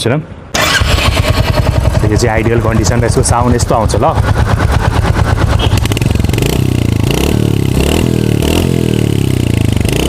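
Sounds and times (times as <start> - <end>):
motorcycle engine revving: 0.6 - 10.0.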